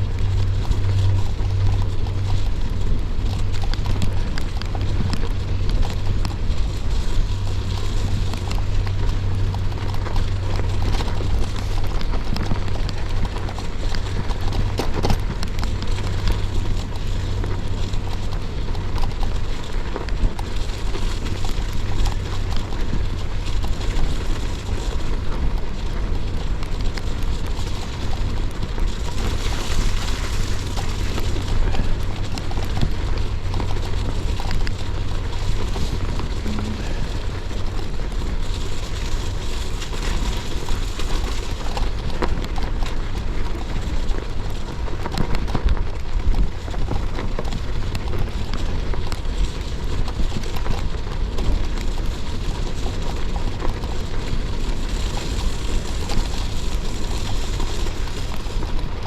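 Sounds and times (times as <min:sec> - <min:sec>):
bike tyres crunching on snow and ice: 0:00.0 - 0:59.0
low wind rumble on microphone: 0:00.0 - 0:59.0.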